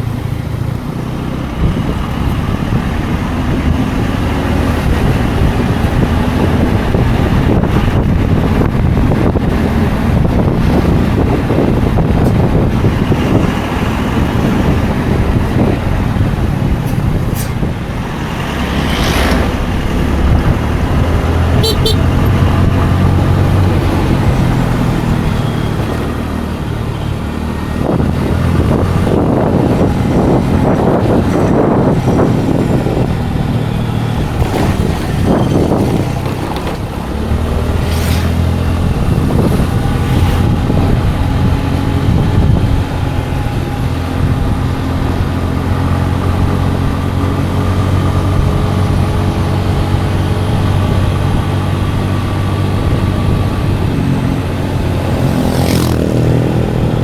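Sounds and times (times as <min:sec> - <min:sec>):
road and wind rush: 0:00.0 - 0:57.0
scooter engine humming: 0:00.0 - 0:57.0.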